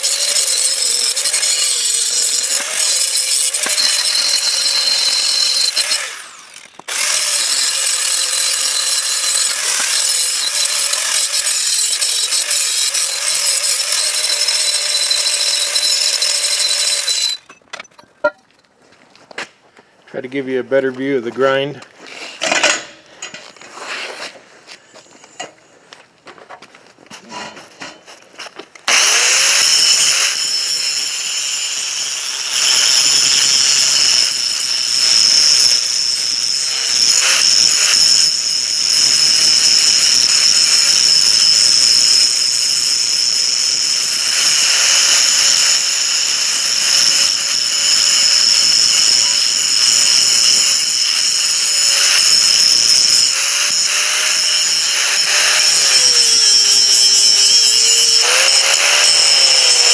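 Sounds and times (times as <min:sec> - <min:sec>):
electric grinder grinding steel: 0:00.0 - 0:17.5, 0:28.9 - 0:59.9.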